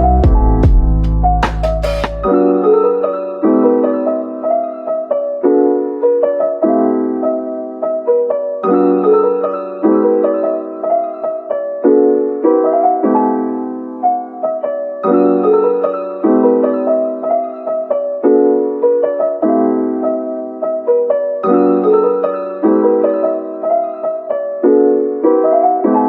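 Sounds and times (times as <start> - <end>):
soft piano music: 0.0 - 26.0.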